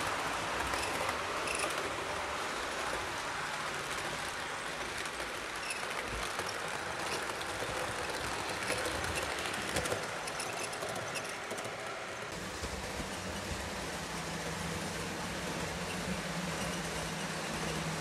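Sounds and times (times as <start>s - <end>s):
model train wheels rumbling: 0.0s - 18.0s.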